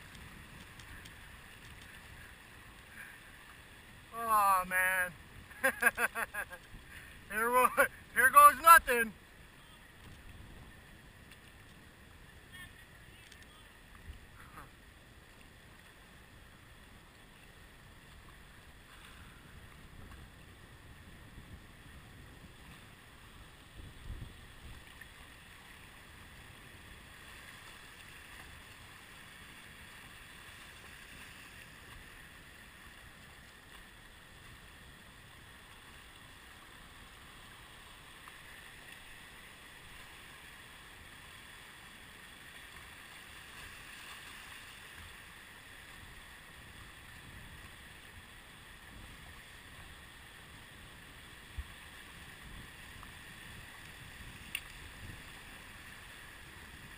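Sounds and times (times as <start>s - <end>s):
rushing river water: 0.0s - 56.9s.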